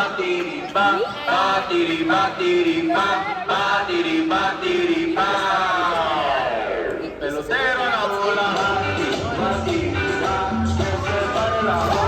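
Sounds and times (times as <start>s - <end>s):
latin song: 0.0s - 12.0s.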